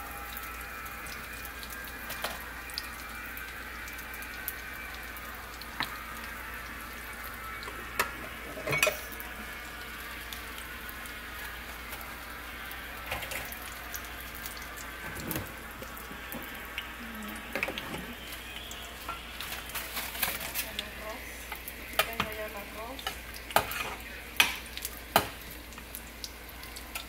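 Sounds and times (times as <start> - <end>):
food frying in oil: 0.0 - 27.0.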